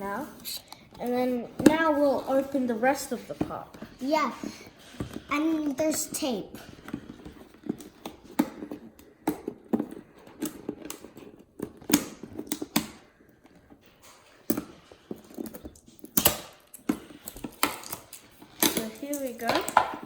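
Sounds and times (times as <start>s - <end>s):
packaging clicks and scrapes: 0.1s - 20.0s.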